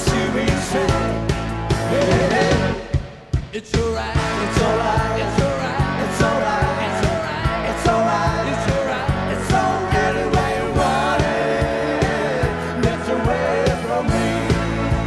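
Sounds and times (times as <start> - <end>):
drums beating: 0.0 - 15.0
live rock band: 0.0 - 15.0
person singing lead vocal: 0.0 - 15.0.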